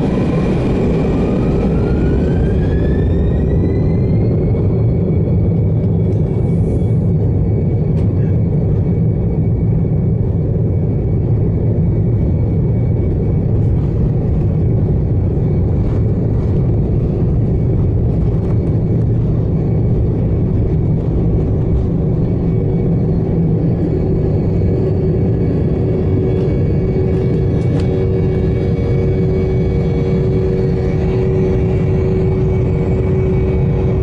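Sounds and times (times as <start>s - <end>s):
faint steady whine: 0.0s - 34.0s
jet engines at takeoff power: 0.0s - 34.0s.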